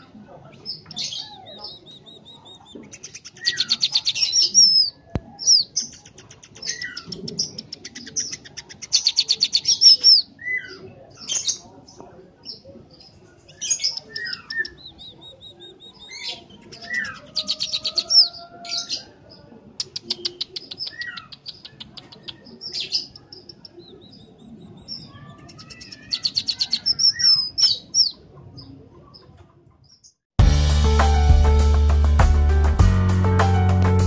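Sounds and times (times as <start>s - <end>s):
small bird singing: 0.0s - 30.2s.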